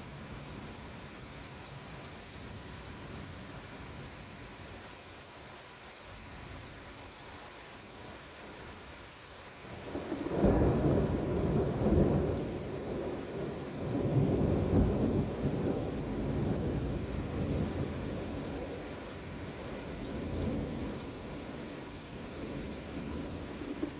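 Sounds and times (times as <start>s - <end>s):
steady rain: 0.0s - 23.9s.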